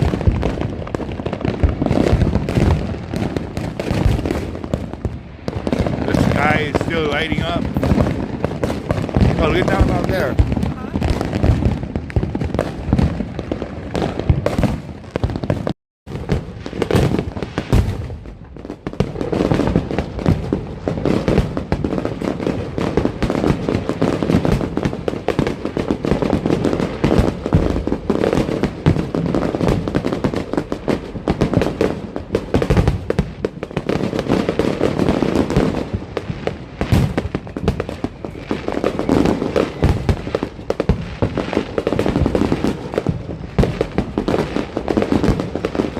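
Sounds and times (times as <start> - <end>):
fireworks and firecrackers popping: 0.0 - 45.9.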